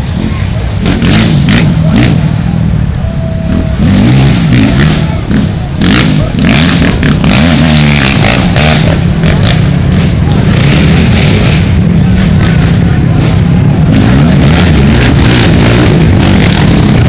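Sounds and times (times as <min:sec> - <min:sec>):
quad engines revving: 0:00.0 - 0:17.0.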